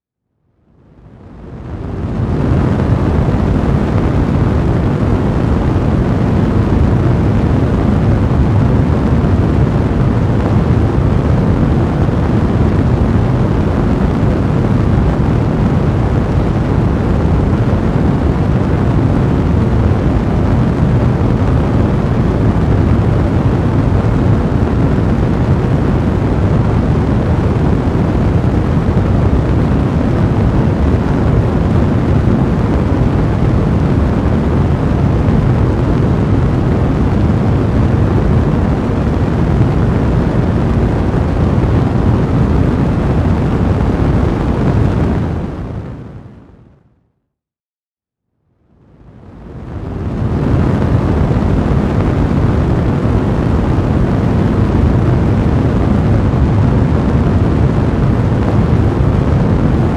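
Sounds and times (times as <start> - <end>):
fire blazing: 1.2 - 46.1, 49.4 - 59.9.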